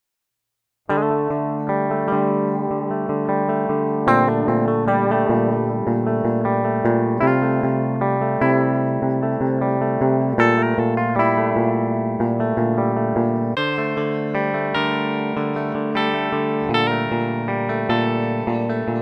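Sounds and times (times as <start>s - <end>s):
electric guitar chords ringing: 0.9s - 19.0s.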